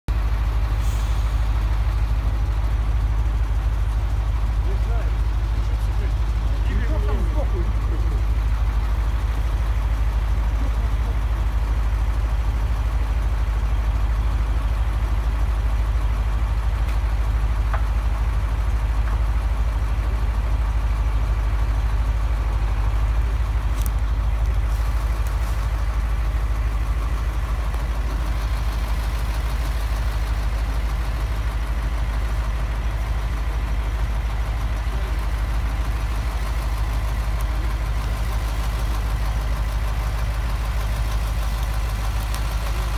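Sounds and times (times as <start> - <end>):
engine droning: 0.1 - 42.9.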